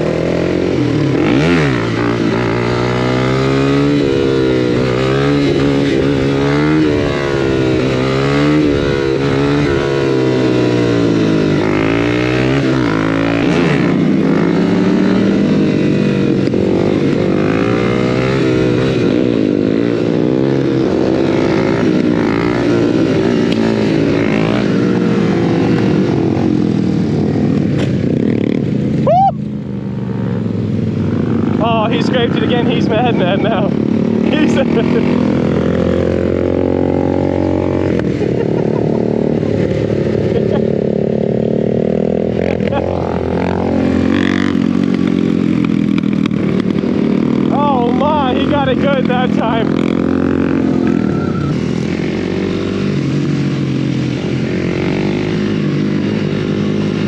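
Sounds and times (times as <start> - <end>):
motorcycle engine revving: 0.0 - 57.0
other motorcycles running: 0.0 - 57.0.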